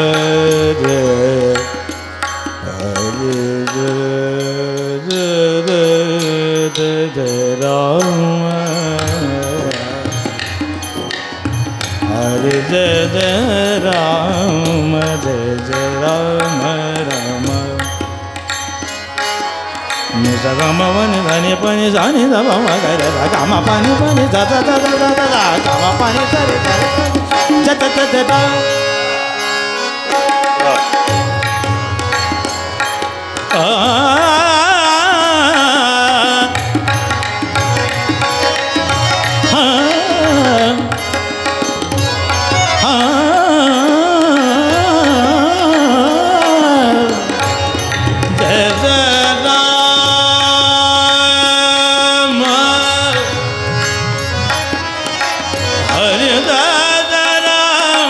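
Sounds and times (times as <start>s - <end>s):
man singing devotional song: 0.0s - 29.4s, 30.0s - 58.0s
harmonium chords: 0.0s - 58.0s
tabla drumming: 0.0s - 58.0s.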